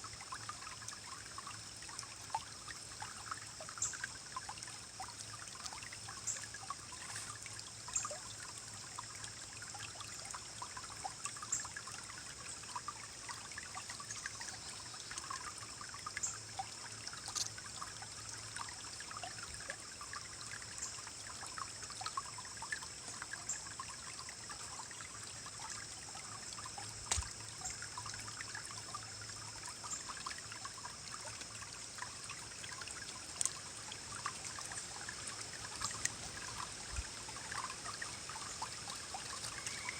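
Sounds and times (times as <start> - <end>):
stream rippling over rocks: 0.0 - 39.9.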